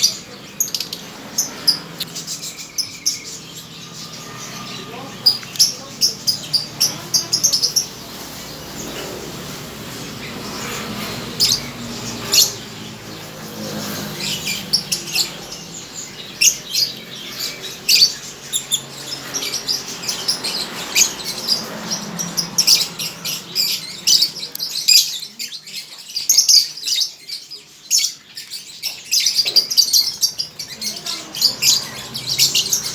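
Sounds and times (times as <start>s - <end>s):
lovebirds chirping and squawking: 0.0s - 32.9s.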